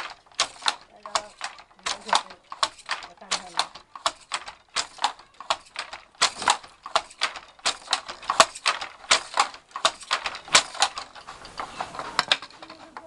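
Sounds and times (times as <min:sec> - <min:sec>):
wooden handloom clacking: 0:00.0 - 0:13.0.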